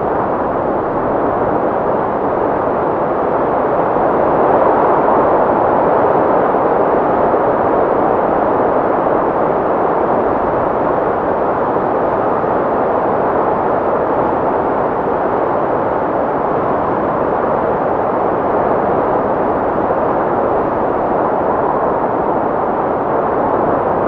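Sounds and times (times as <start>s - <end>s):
steady wind rushing: 0.0s - 24.0s.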